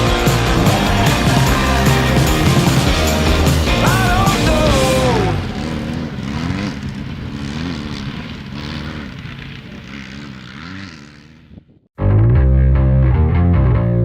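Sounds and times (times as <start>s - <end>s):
engine revving up and down: 0.0s - 11.8s.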